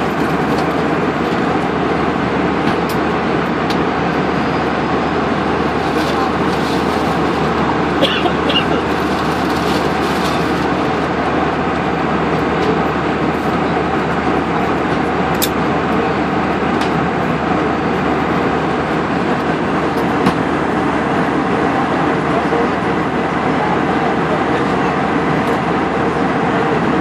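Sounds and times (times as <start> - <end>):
jet engine cabin noise: 0.0 - 27.0.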